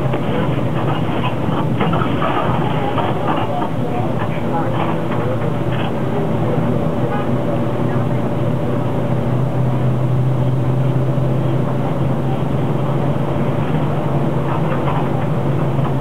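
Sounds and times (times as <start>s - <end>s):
bus engine hum: 0.0s - 16.0s
road and cabin noise: 0.0s - 16.0s.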